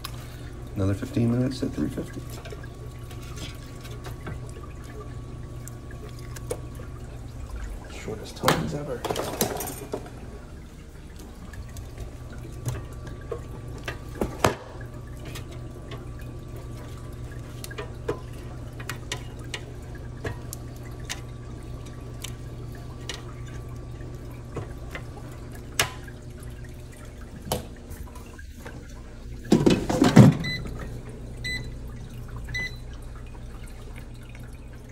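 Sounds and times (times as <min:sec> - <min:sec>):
air fryer humming: 0:00.0 - 0:34.9.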